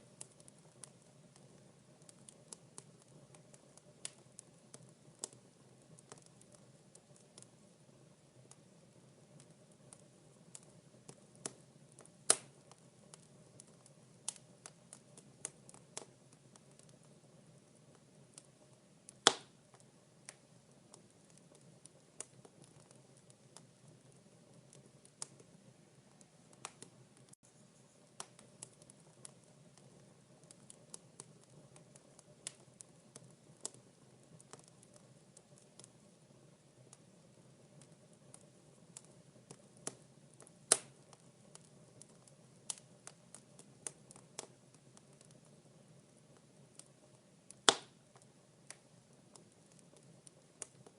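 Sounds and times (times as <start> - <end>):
faint low hiss: 0.0 - 50.9
wood fire crackling and popping: 0.0 - 50.9.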